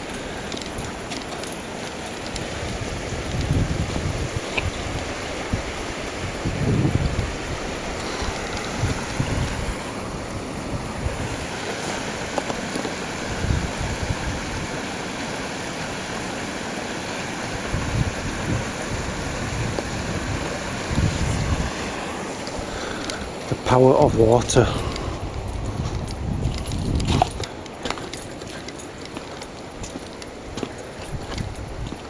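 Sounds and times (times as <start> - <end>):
wind buffeting microphone: 0.0 - 15.1, 17.5 - 29.0, 29.6 - 32.0
water rushing through rubble: 0.0 - 32.0.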